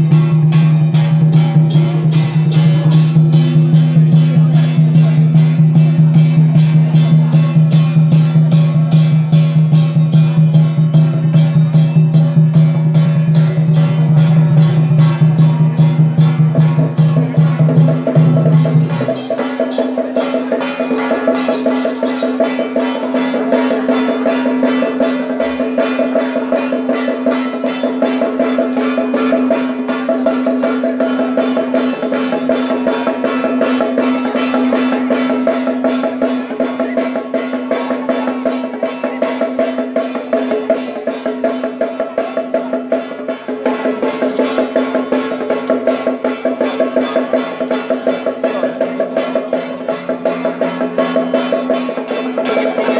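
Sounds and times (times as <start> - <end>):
fast drumming: 0.0 - 52.9.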